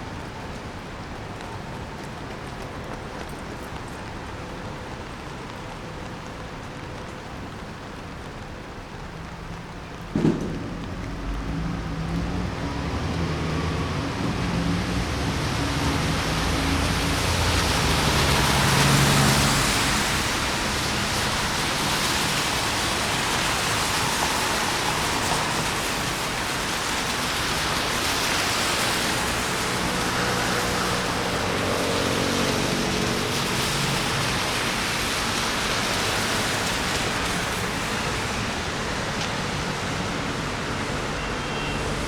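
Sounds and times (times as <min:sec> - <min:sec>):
rain hiss on street: 0:00.0 - 0:42.0
traffic on wet road: 0:00.0 - 0:42.0.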